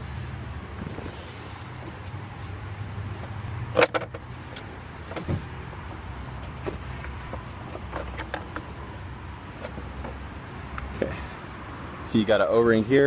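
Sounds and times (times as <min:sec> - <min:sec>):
tools and engine parts clanking: 0:00.8 - 0:11.2.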